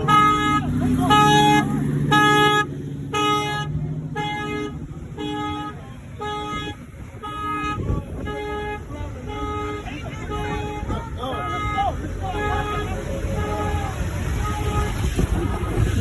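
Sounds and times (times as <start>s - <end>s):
car horn blasts: 0.0s - 16.0s.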